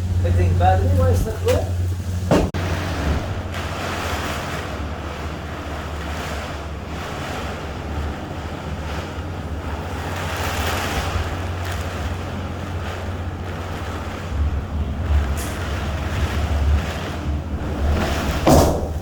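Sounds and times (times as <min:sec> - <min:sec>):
storm wind gusting: 0:00.0 - 0:19.0
wind buffeting microphone: 0:00.0 - 0:19.0
rain: 0:01.8 - 0:19.0.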